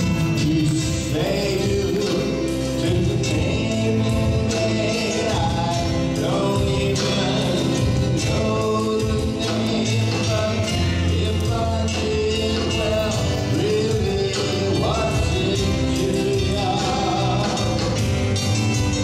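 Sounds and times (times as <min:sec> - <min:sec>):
live band playing slow song: 0:00.0 - 0:19.0
person singing: 0:00.0 - 0:19.0.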